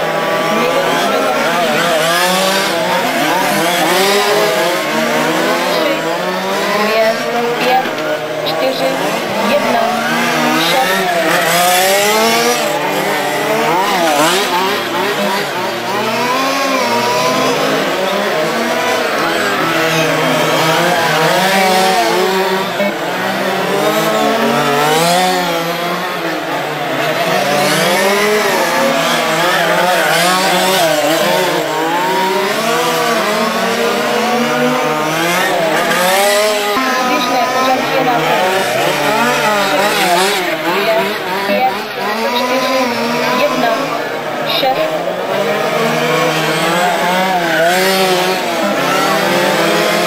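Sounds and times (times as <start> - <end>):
rc car engines revving: 0.0 - 50.0.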